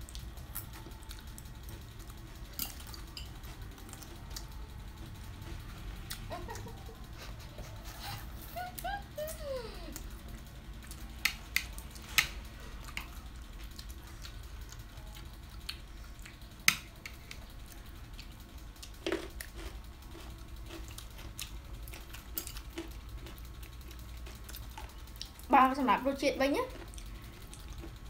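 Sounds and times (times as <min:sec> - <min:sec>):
soft chewing: 0:00.0 - 0:25.5, 0:26.7 - 0:28.0
low steady hum: 0:00.0 - 0:28.0.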